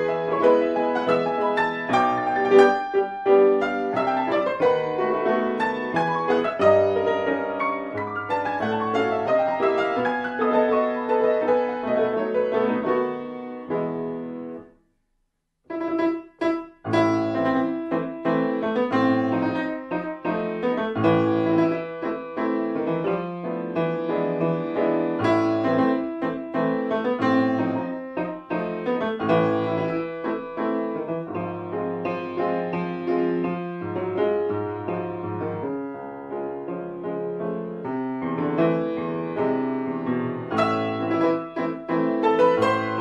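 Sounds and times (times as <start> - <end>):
solo grand piano classical music: 0.0 - 15.0, 15.6 - 43.0.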